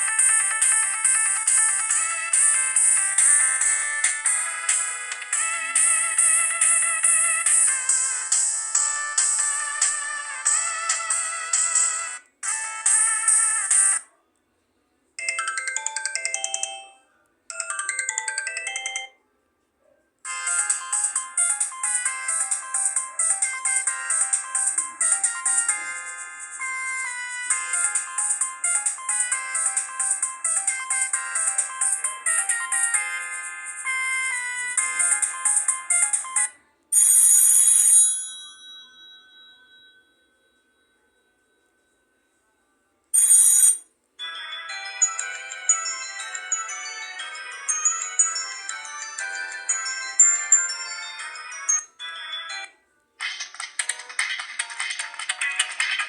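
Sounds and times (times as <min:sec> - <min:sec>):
mobile phone ringtone: 0:00.0 - 0:14.1, 0:15.2 - 0:19.3, 0:20.2 - 0:42.4, 0:43.2 - 0:53.0.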